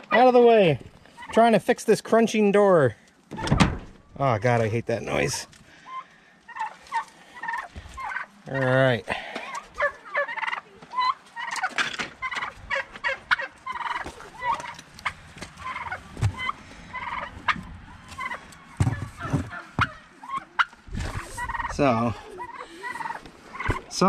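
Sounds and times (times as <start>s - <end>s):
turkeys gobbling: 0.0s - 1.5s, 5.1s - 24.0s.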